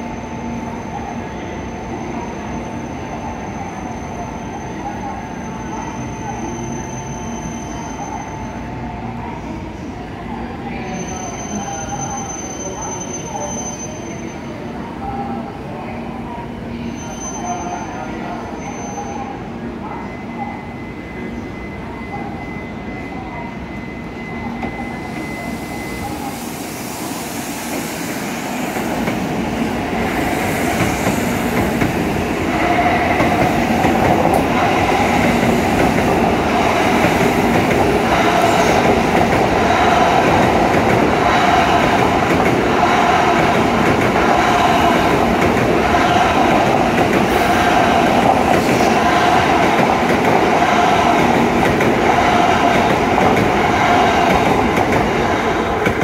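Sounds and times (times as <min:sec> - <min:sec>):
high-speed train passing: 0:00.0 - 0:56.0.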